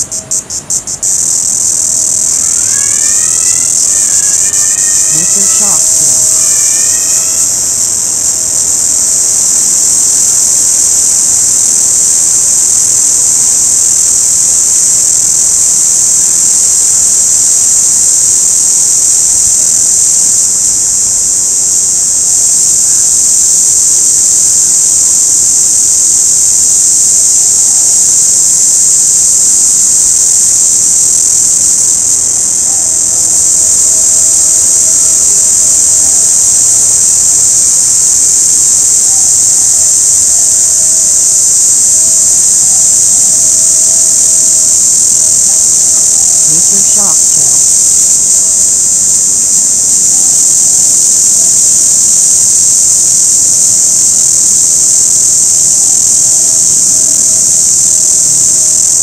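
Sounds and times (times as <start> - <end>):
cicada buzzing: 0.0 - 59.0.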